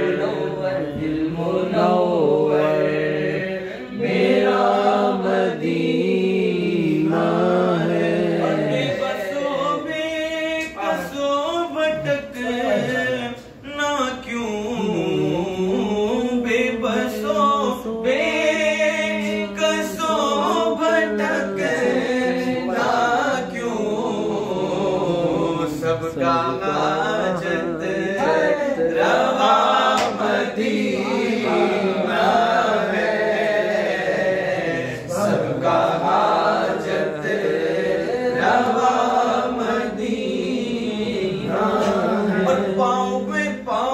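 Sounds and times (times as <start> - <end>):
low vocal drone: 0.0 - 43.9.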